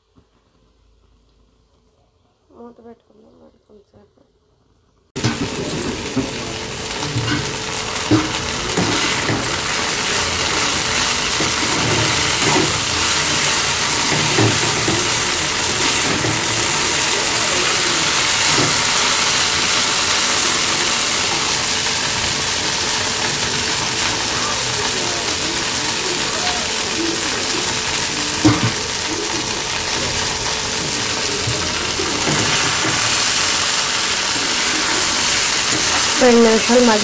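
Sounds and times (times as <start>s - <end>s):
okra sizzling in oil: 5.1s - 37.0s.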